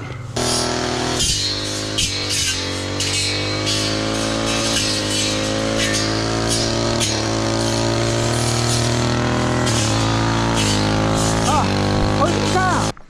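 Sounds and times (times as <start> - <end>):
brush cutter engine running: 0.4 - 12.9.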